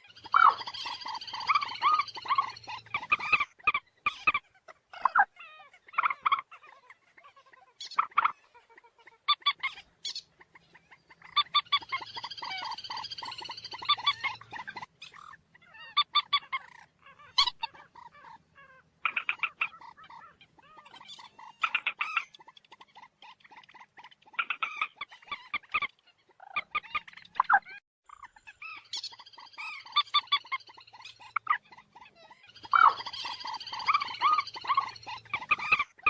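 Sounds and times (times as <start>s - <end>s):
moorhen calling: 0.0s - 36.0s.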